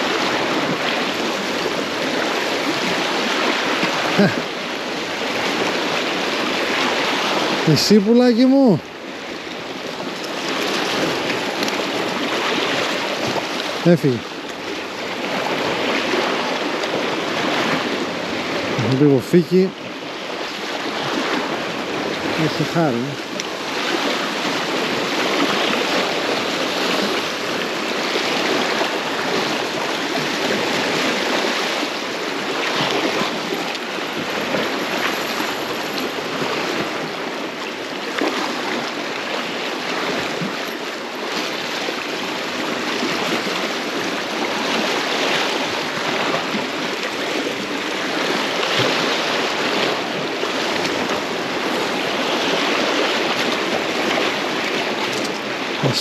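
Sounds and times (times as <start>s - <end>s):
small waves splashing at shore: 0.0s - 56.0s.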